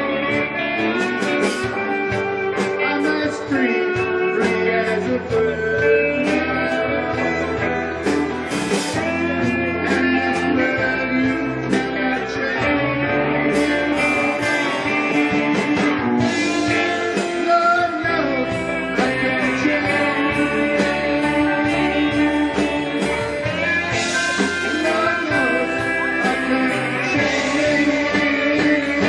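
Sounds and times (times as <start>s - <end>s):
electric guitars: 0.0s - 29.0s
live reggae band: 0.0s - 29.0s
man singing into microphone: 0.0s - 29.0s.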